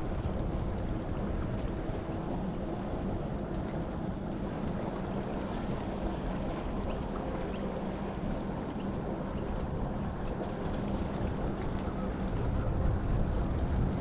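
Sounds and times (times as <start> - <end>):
faint steady drone: 0.0 - 14.0
small waves lapping: 0.0 - 14.0
wind rumble on microphone: 0.0 - 14.0.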